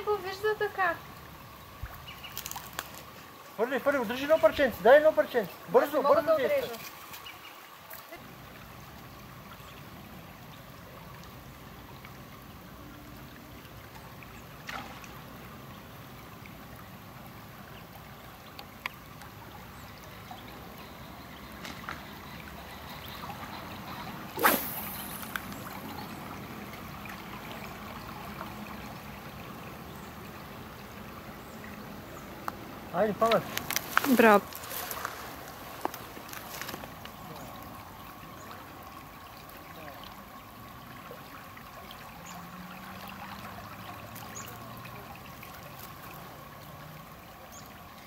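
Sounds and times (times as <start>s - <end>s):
river water flowing: 0.0s - 48.0s.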